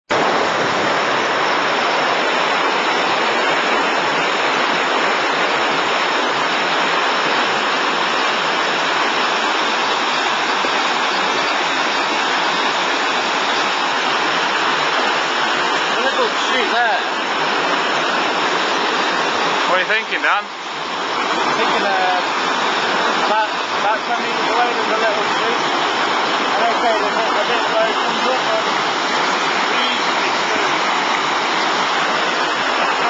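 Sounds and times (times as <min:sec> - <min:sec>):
water rushing over rocks: 0:00.1 - 0:33.0.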